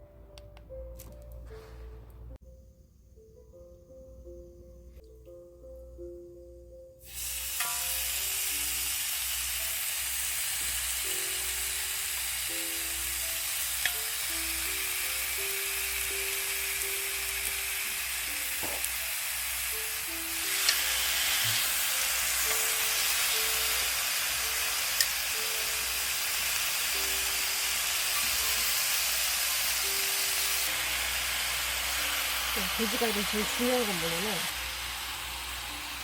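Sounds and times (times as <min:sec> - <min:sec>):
soft background music: 0:00.0 - 0:36.0
meat sizzling on a hot pan: 0:07.0 - 0:36.0.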